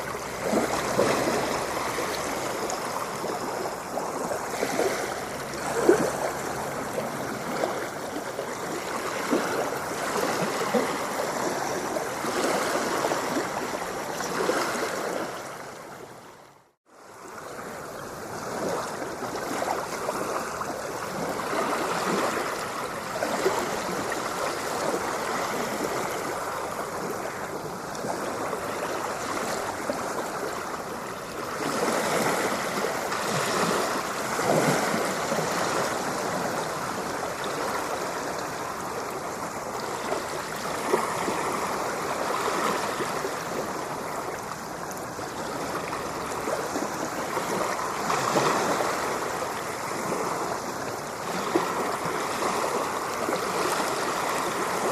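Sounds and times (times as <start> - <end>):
ocean water splashing: 0.0 - 54.9.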